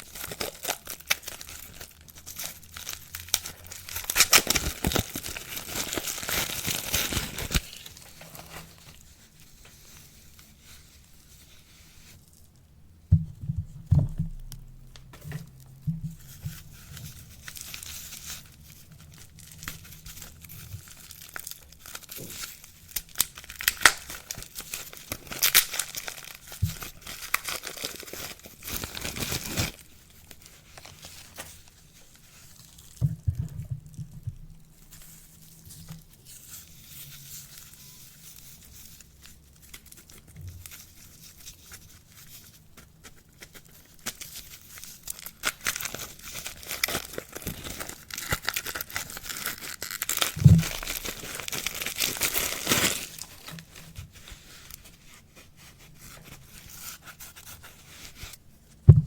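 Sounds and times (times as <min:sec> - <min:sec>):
wrapping crinkling and tearing: 0:00.0 - 0:12.6, 0:15.5 - 0:58.9.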